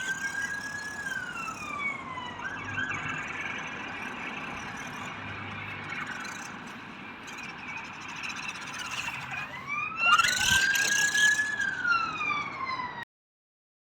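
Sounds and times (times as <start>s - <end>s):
toy car motor whining: 0.0s - 12.2s.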